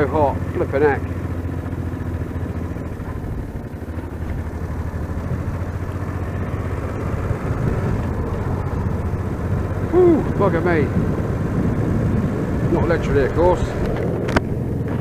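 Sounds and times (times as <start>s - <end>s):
motorcycle engine humming: 0.0s - 15.0s.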